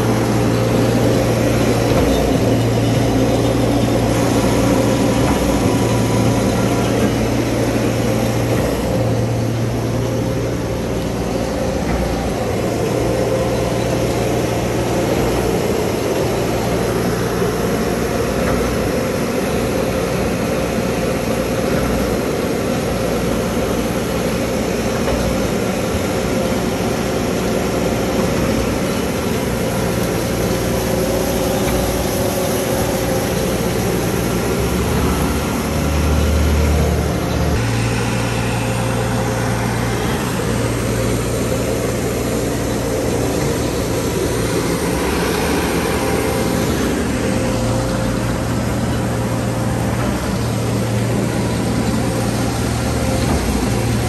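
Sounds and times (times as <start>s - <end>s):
diesel engines droning: 0.0s - 54.0s
mixing auger feeding concrete: 0.0s - 54.0s.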